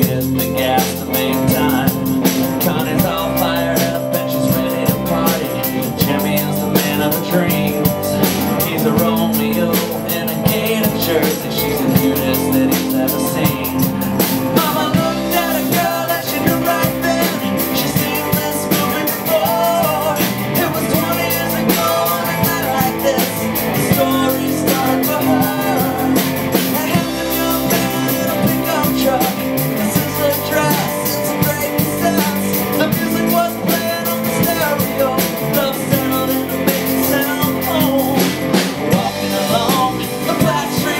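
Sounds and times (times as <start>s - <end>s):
live band playing: 0.0s - 40.9s
person singing: 0.0s - 40.9s.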